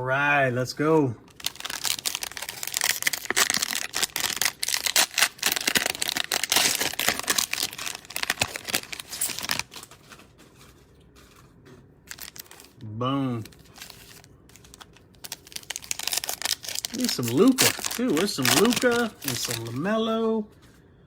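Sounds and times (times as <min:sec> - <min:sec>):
cellophane wrapper crinkling: 0:01.3 - 0:20.0.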